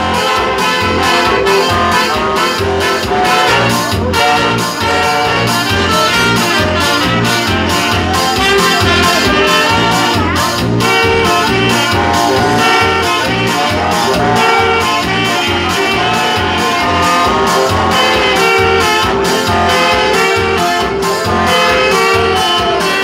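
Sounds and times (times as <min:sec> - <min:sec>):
steady bass beat: 0:00.0 - 0:23.0
trumpet and saxophones playing: 0:00.0 - 0:23.0.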